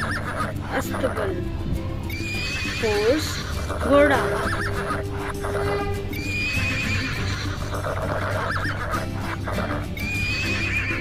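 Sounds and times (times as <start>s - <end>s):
horse whinnying: 0.0s - 0.5s, 2.1s - 11.0s.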